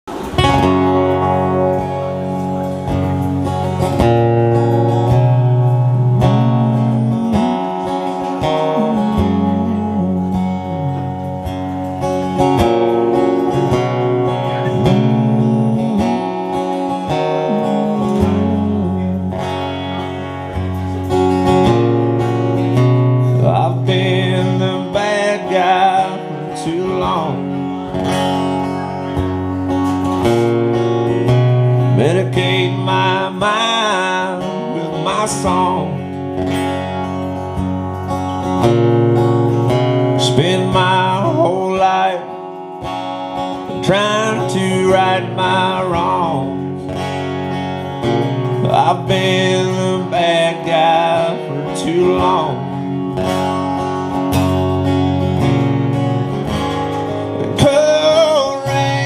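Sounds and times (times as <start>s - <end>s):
sliding bass notes: 0.0s - 59.0s
strummed acoustic guitar: 0.0s - 59.0s
bending melody line: 0.1s - 59.0s.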